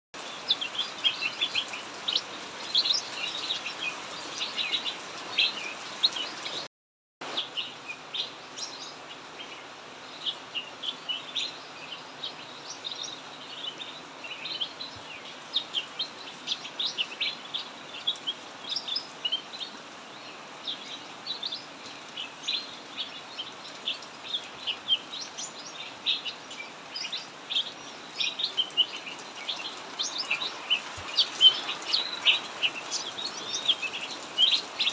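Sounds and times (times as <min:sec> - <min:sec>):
heavy rain hiss: 0:00.2 - 0:34.9
songbird chirping: 0:00.2 - 0:34.9.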